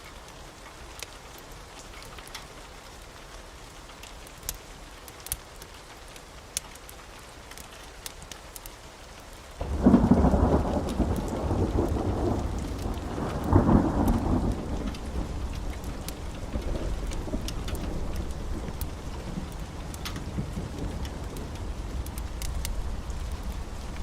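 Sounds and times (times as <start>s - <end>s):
wood fire crackling: 0.2s - 24.0s.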